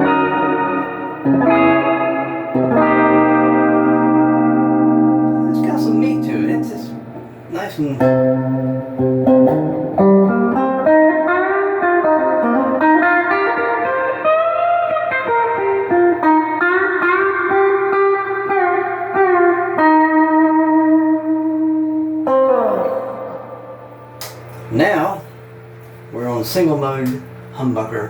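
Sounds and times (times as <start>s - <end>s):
overdriven electric guitar lead: 0.0s - 25.2s.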